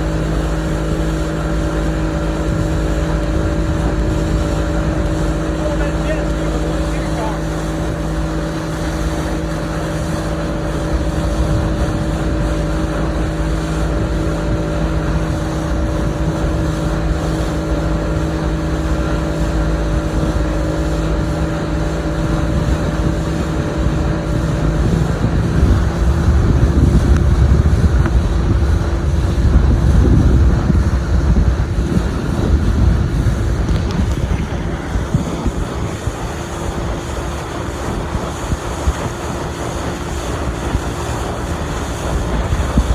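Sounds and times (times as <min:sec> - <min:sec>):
motorboat engine running: 0:00.0 - 0:42.9
water rushing past hull: 0:00.0 - 0:42.9
wind buffeting microphone: 0:00.0 - 0:42.9.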